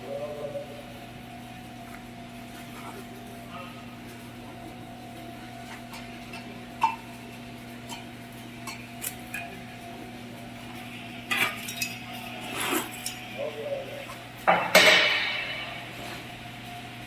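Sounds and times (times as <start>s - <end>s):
arc welding machine humming: 0.0s - 17.0s.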